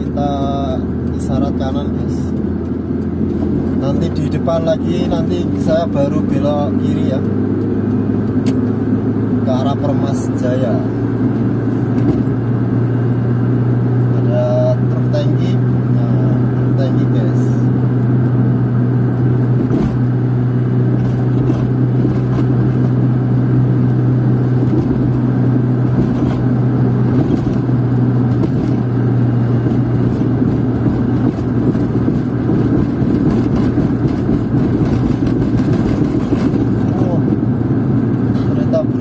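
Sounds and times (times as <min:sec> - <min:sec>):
car engine hum: 0:00.0 - 0:39.0
tyre and road noise: 0:00.0 - 0:39.0.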